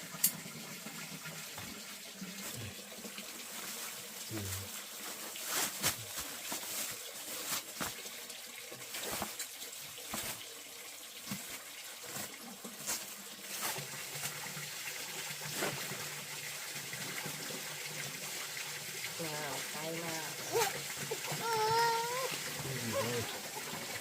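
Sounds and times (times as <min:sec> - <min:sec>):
water running and trickling: 0:00.0 - 0:24.0.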